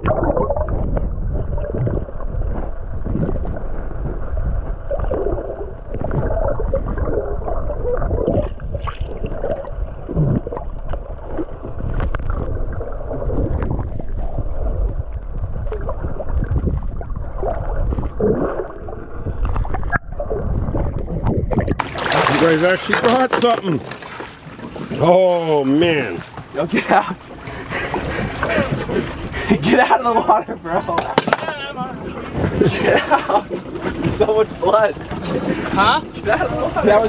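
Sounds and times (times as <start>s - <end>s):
muffled underwater water sloshing: 0.0s - 37.0s
water splashes: 0.0s - 37.0s.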